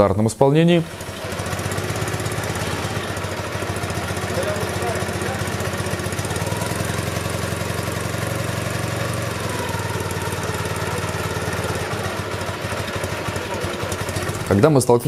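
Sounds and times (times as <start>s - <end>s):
motorcycle engine idling: 0.7s - 15.0s.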